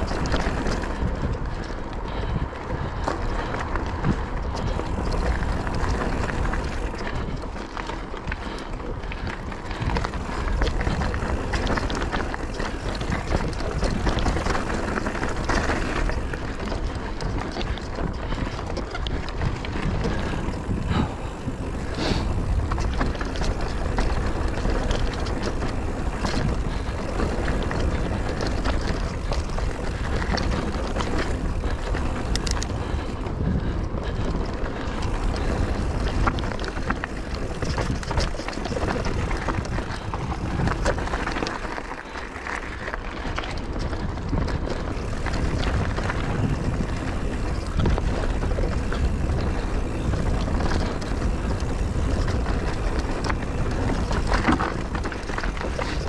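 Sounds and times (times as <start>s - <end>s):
bike clattering over bumps: 0.0s - 56.0s
bike tyres rolling over dirt: 0.0s - 56.0s
wind noise: 0.0s - 56.0s.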